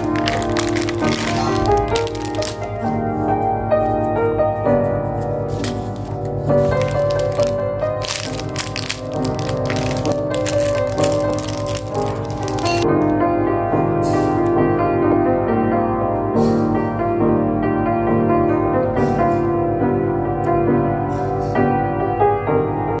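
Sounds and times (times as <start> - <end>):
piano-like keyboard music: 0.0 - 23.0.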